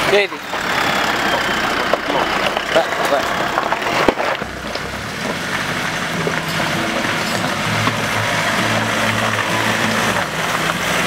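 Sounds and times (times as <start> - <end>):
engine running under load: 0.0 - 11.0.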